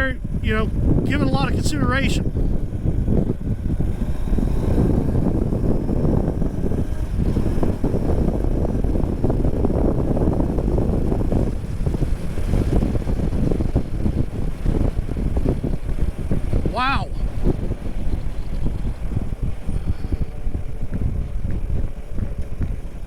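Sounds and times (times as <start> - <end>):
wind buffeting microphone: 0.0 - 23.0
motorcycle engine running: 2.1 - 23.0.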